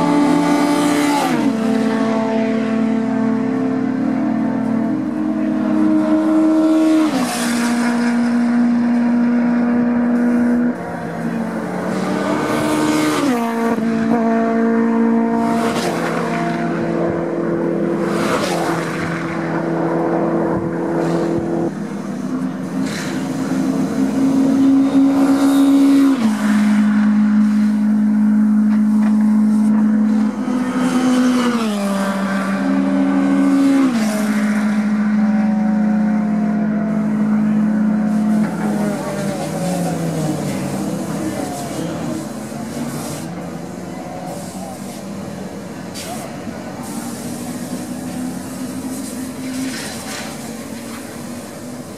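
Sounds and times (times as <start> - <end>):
cars whooshing past: 0.0 - 51.9
race car engines shifting gears: 0.0 - 51.9.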